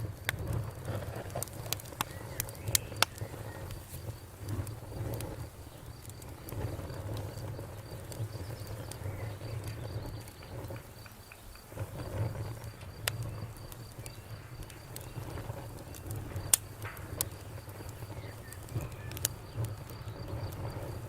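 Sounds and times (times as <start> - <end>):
campfire crackling and popping: 0.0 - 21.0
high insect trill: 0.0 - 21.0
low rumble of flames: 0.0 - 21.0.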